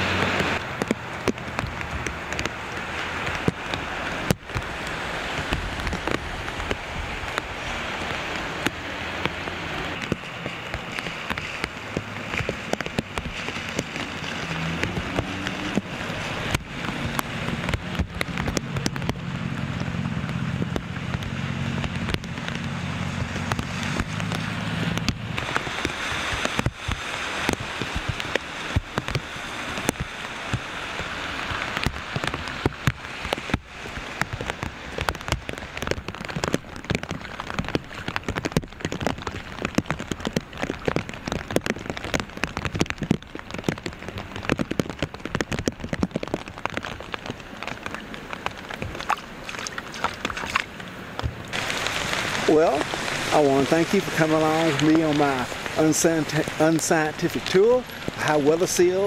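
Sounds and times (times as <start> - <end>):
steady rain: 0.0 - 59.0
raindrops clicking on plastic bag: 0.2 - 59.0.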